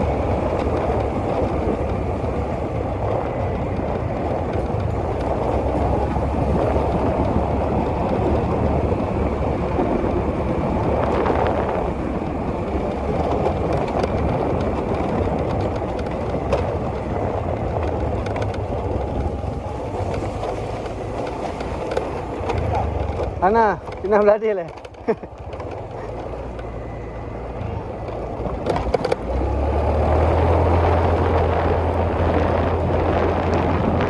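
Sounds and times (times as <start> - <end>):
boat engine running: 0.0 - 34.0
rush of wind and water: 0.0 - 34.0.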